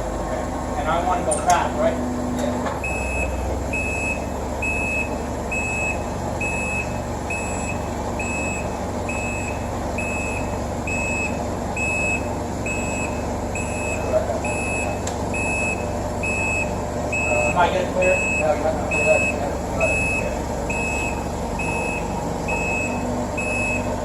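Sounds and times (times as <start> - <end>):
forklift engine running: 0.0 - 24.0
forklift backup alarm beeps: 2.8 - 24.0.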